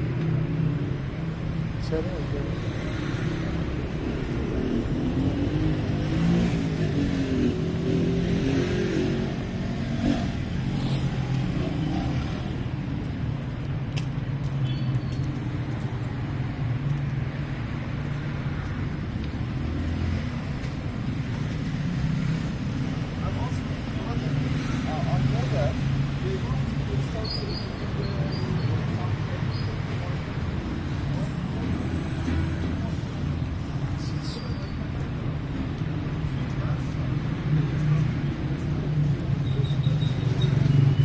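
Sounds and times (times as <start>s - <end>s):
car traffic passing: 0.0s - 41.0s.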